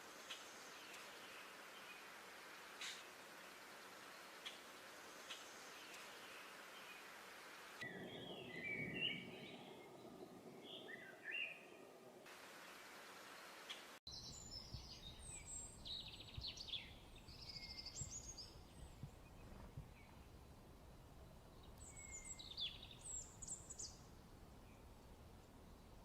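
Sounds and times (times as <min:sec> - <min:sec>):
low background hiss: 0:00.0 - 0:26.0
songbird singing chirps and trills: 0:00.0 - 0:26.0.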